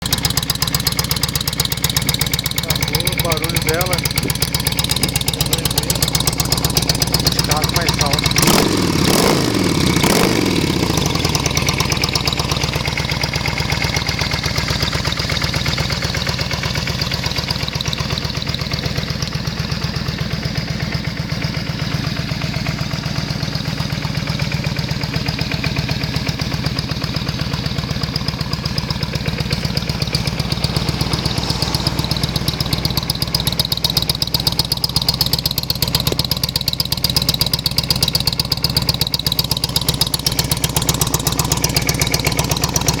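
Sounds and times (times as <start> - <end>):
motorcycle engine revving and idling: 0.0 - 43.0.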